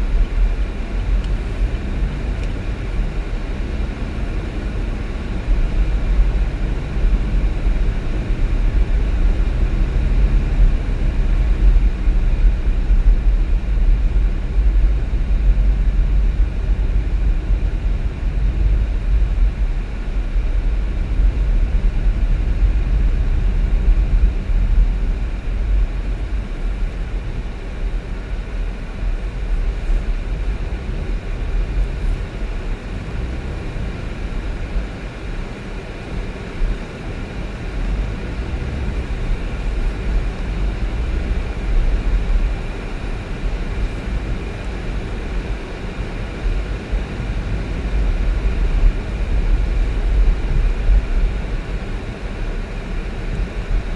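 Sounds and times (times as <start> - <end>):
vehicle road and engine rumble: 0.0 - 53.9.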